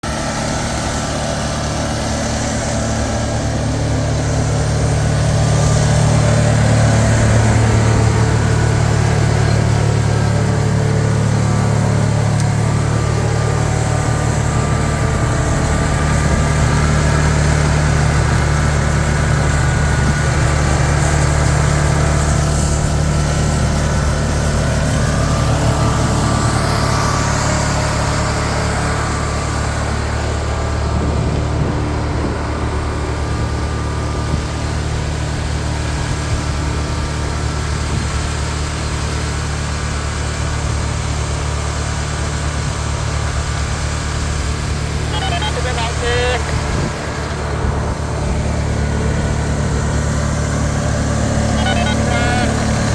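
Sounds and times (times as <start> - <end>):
machine engine humming: 0.0 - 52.9.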